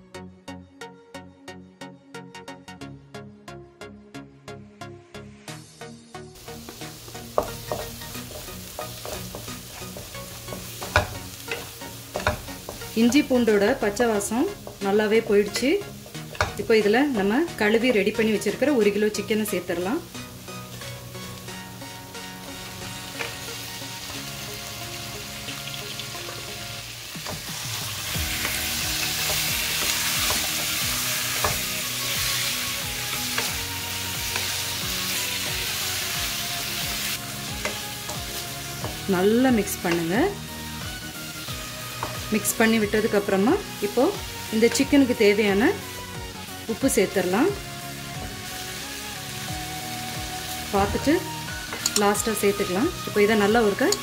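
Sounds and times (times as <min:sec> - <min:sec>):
masala sizzling in hot oil: 0:06.4 - 0:54.0.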